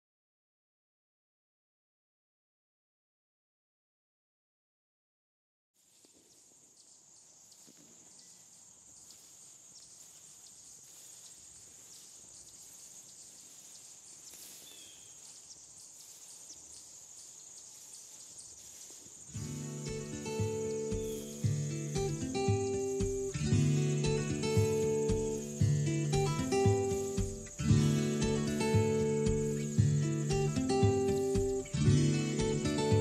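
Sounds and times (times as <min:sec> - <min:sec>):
crickets trilling: 0:05.8 - 0:33.0.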